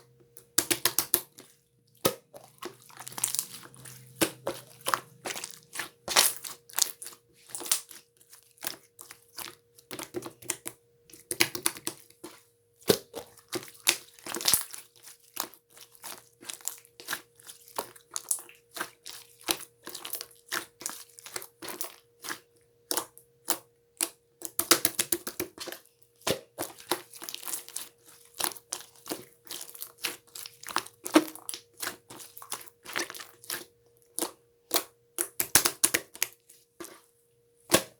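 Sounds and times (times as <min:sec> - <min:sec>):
slime clicking and crackling: 0:00.4 - 0:36.4.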